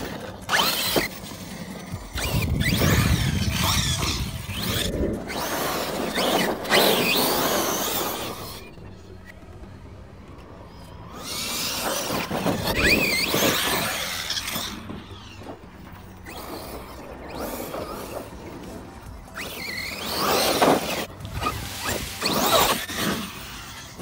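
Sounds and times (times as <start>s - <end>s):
tyres scrabbling on dirt: 0.0s - 9.4s, 10.2s - 24.0s
electric motor whining: 0.0s - 24.0s.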